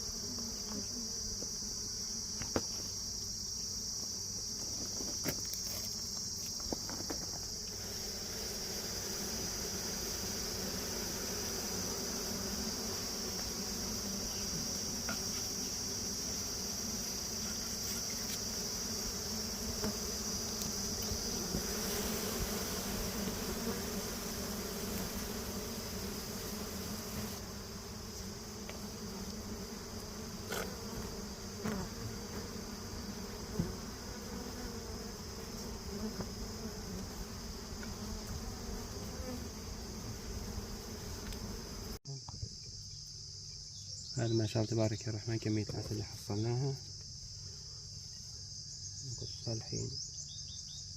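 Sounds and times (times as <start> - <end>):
honeybees buzzing: 0.0 - 50.9.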